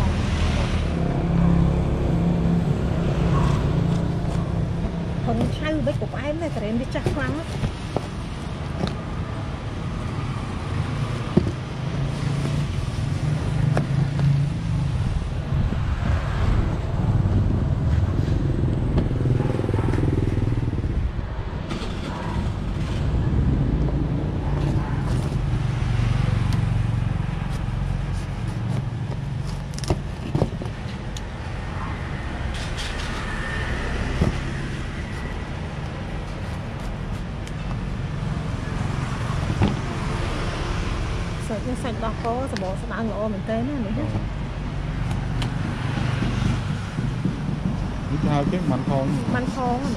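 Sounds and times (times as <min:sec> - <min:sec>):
road traffic rumbling: 0:00.0 - 0:49.9.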